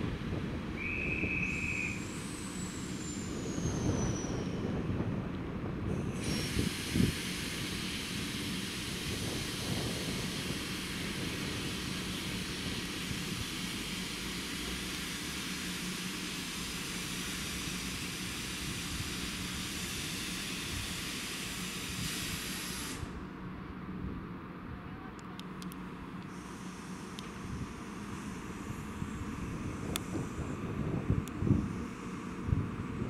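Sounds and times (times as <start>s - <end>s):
train steady hiss: 0.0s - 33.0s.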